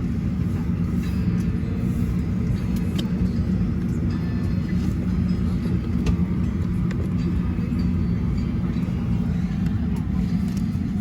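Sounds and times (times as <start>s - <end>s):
cabin air system humming: 0.0s - 11.0s.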